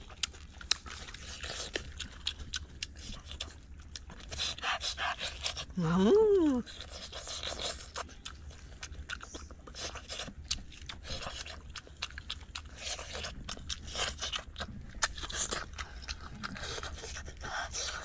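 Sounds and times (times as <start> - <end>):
man chewing and smacking lips: 0.0 - 18.0.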